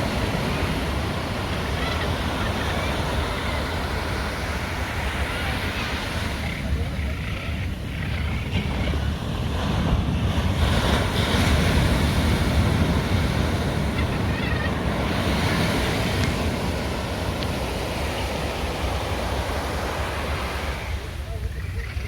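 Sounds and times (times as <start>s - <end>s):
ocean surf washing in: 0.0s - 22.0s.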